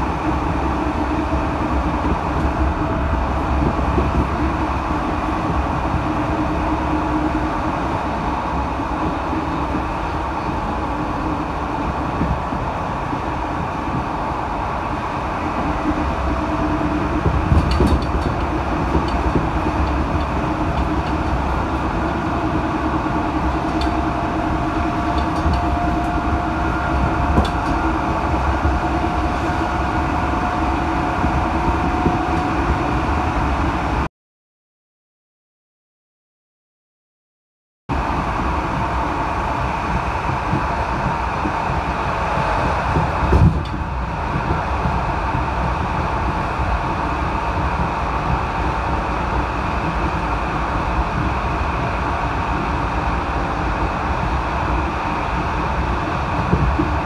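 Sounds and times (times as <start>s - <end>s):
train wheels rumbling on rails: 0.0s - 34.1s, 37.9s - 57.0s.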